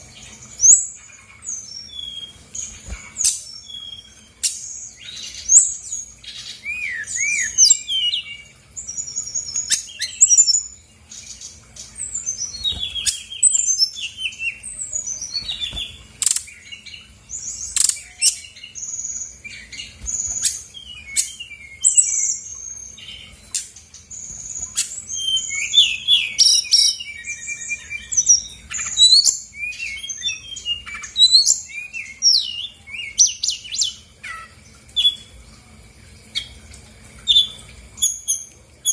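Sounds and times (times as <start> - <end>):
bird singing varied song: 0.0 - 35.4.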